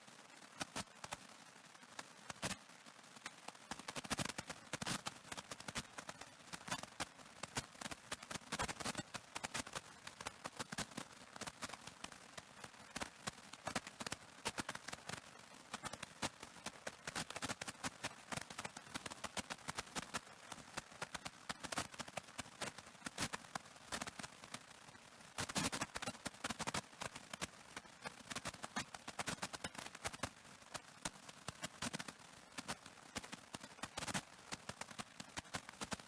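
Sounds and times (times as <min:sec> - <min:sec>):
cassette tape crackle: 0:00.0 - 0:36.0
faint tape hiss: 0:00.0 - 0:36.0.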